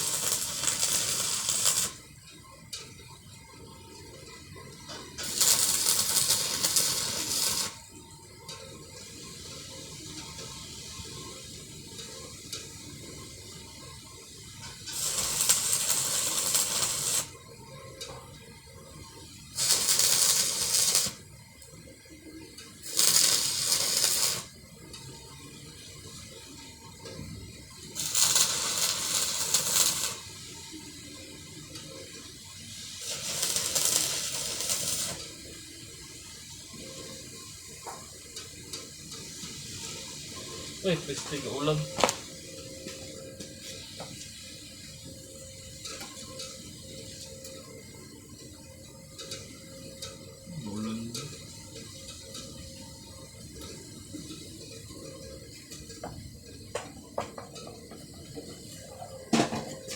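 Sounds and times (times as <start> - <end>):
arc welding crackling hiss: 0.0 - 59.9.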